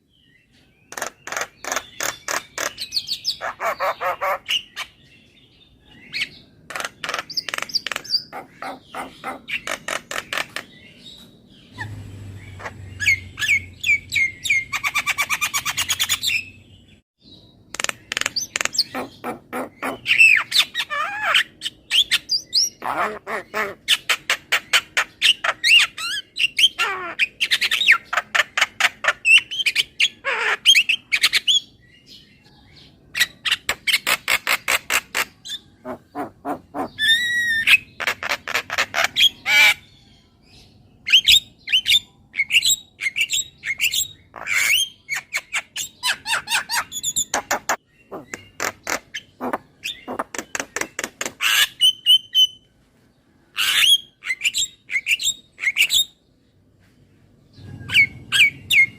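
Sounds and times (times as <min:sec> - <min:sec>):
bird chattering and squawking: 0:00.8 - 0:05.0, 0:05.9 - 0:16.6, 0:17.7 - 0:31.8, 0:33.1 - 0:39.9, 0:41.1 - 0:52.6, 0:53.6 - 0:56.2, 0:57.6 - 0:58.9.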